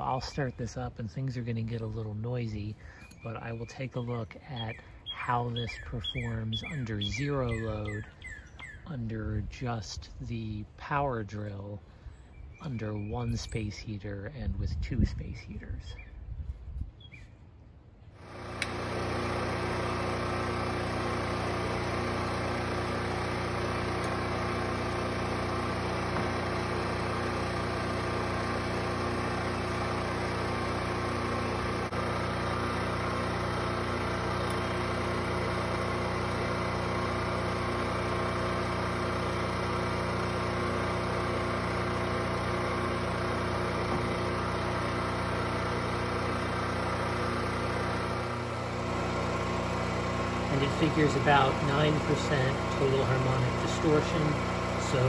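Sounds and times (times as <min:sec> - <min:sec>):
generator engine running: 0:00.0 - 0:09.8, 0:18.1 - 0:55.0.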